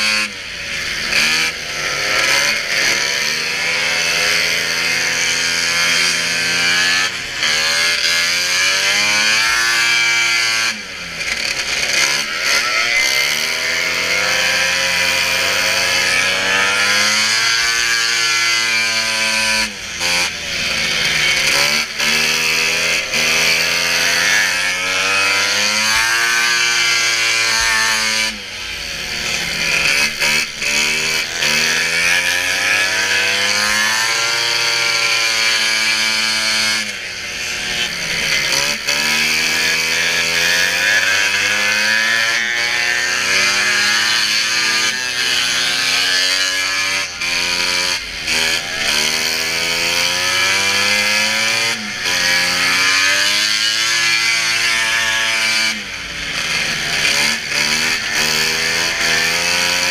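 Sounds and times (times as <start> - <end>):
snowmobile engines revving: 0.0 - 59.9.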